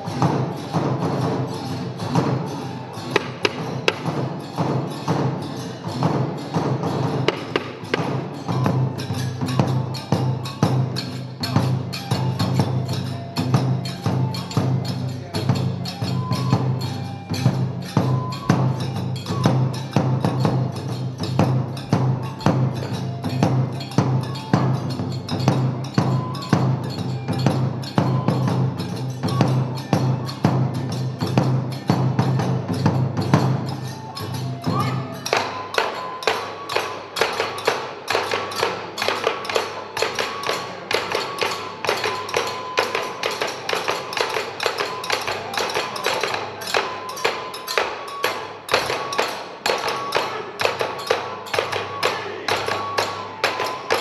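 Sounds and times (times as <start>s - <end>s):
drum beat: 0.0s - 54.0s
hand cymbals: 0.0s - 54.0s
flute notes: 8.3s - 54.0s.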